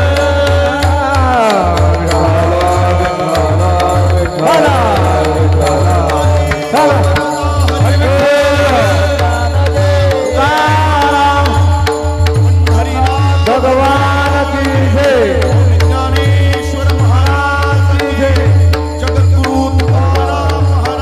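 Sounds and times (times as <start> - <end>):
low drum beat: 0.0 - 21.0
person singing devotional song: 0.0 - 21.0.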